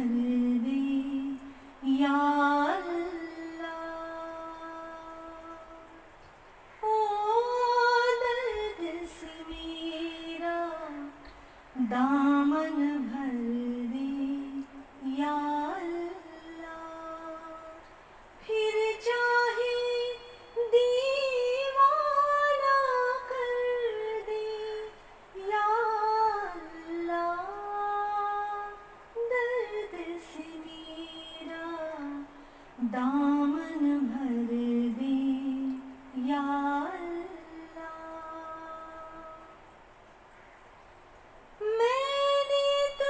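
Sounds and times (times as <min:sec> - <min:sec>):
woman singing slow melody: 0:00.0 - 0:39.9, 0:41.4 - 0:43.0.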